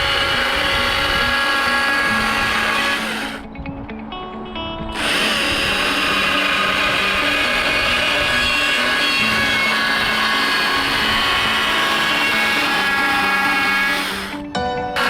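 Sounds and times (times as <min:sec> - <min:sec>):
chainsaw cutting wood: 0:00.0 - 0:03.5, 0:05.0 - 0:15.0
background music: 0:00.0 - 0:15.0.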